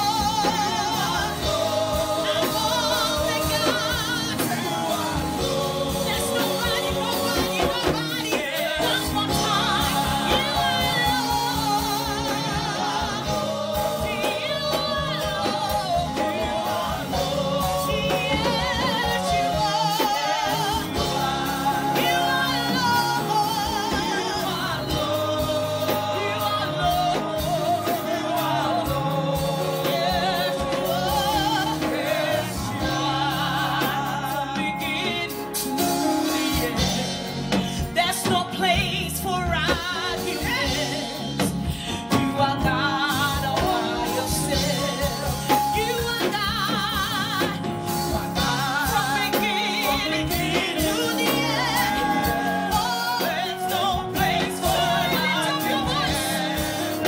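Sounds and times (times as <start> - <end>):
backing singers: 0.0 - 57.0
bass guitar: 0.0 - 57.0
drums: 0.0 - 57.0
woman singing lead vocal: 0.0 - 57.0.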